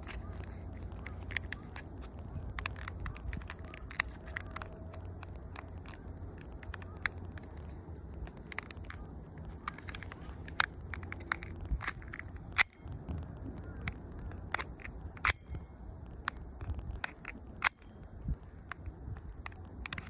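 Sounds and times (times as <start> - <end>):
pistol handling clicks and knocks: 0.0 - 12.8, 13.7 - 15.6, 16.2 - 18.0, 18.6 - 20.0
steady low rumble: 0.0 - 20.0.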